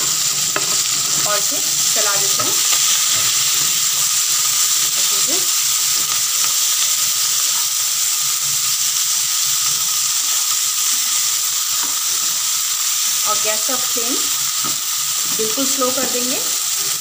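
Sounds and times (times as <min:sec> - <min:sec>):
potatoes sizzling in oil: 0:00.0 - 0:17.0.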